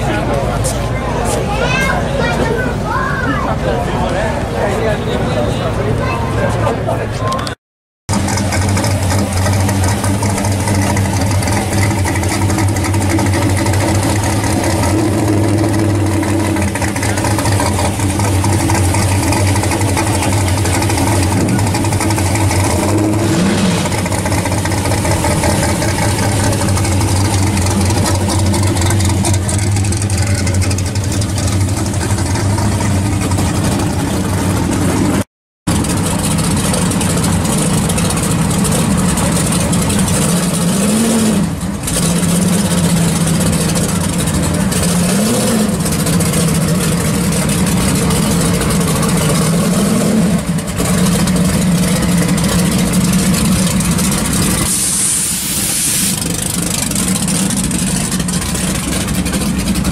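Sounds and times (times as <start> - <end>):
car engine idling: 0.0 - 59.9
second engine idling: 8.1 - 40.6, 41.5 - 45.1, 45.8 - 59.9.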